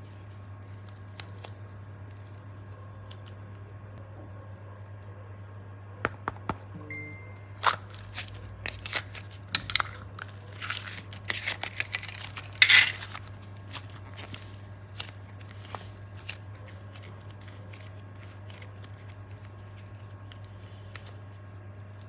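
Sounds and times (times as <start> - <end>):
crinkly rustles: 0.0 - 3.5, 7.6 - 22.0
steady low hum: 0.0 - 22.0.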